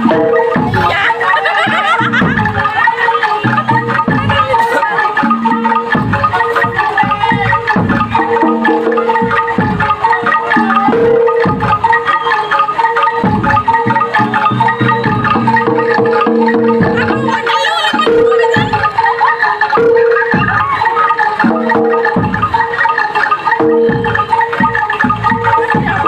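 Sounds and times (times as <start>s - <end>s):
metal mallet percussion ensemble: 0.0s - 26.0s.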